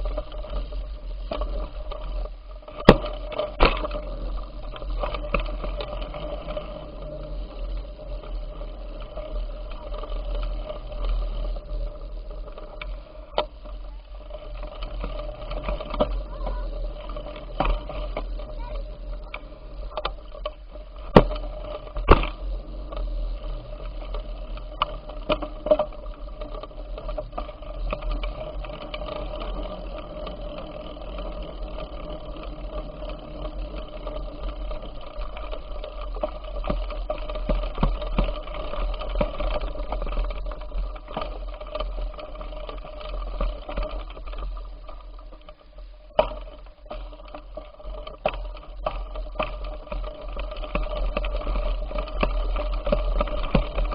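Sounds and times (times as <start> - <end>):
bicycle chain and tyres whirring: 0.0 - 53.9
bicycle knocks and rattles: 0.0 - 53.9.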